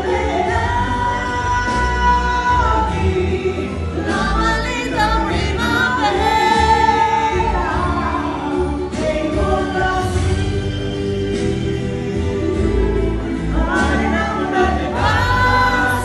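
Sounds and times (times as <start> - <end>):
karaoke backing track: 0.0 - 16.0
women singing karaoke: 0.0 - 16.0.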